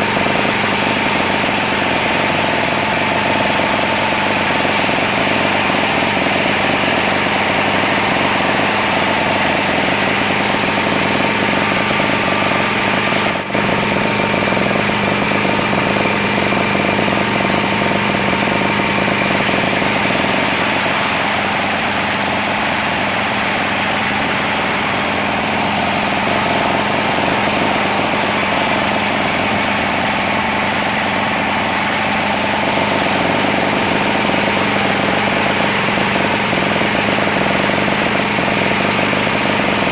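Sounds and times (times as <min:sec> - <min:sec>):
sawmill machine running: 0:00.0 - 0:39.9.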